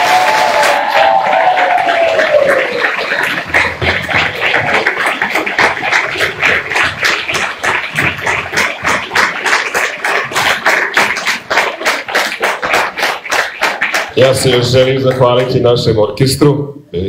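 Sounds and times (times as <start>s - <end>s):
rhythmic applause: 0.0s - 16.5s.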